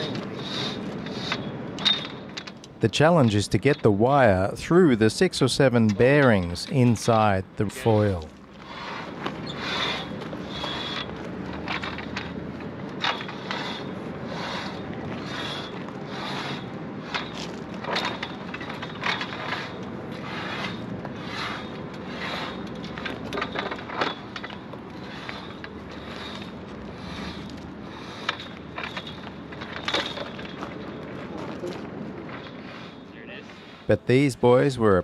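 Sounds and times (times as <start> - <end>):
wire scraping and clicking: 0.0 - 3.8, 8.0 - 33.0.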